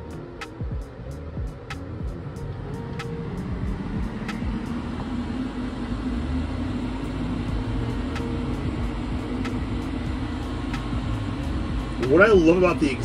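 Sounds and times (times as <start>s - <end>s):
exhaust fan whirring hum: 0.0s - 13.0s.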